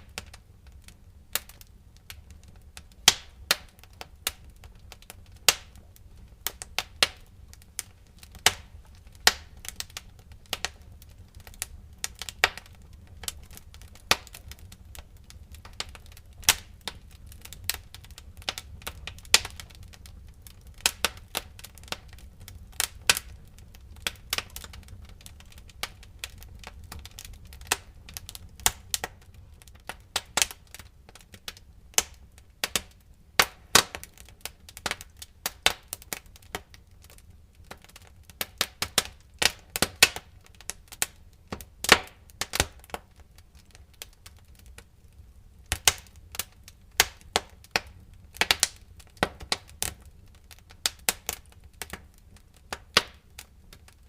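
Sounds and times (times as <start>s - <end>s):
low rumble of burning logs: 0.0s - 54.0s
wood fire crackling: 0.0s - 54.0s.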